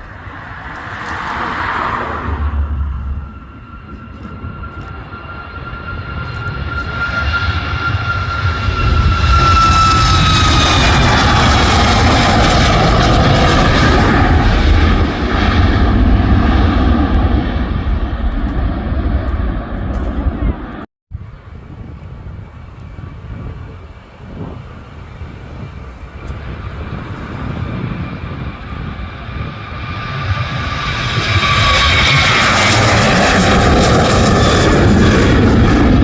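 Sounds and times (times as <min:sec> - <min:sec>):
jet airliner taking off: 0:00.0 - 0:36.0.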